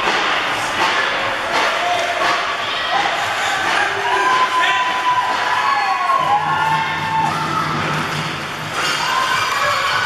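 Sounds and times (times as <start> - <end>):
spectators cheering and shouting: 0.0 - 10.0.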